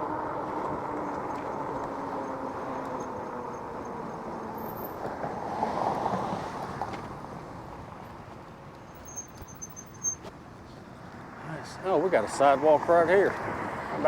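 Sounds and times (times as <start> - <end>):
traffic and road noise: 0.0 - 14.0.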